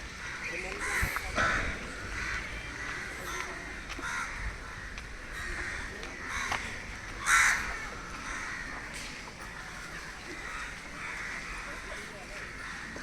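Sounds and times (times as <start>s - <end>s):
crows cawing: 0.0s - 8.9s, 9.5s - 13.0s.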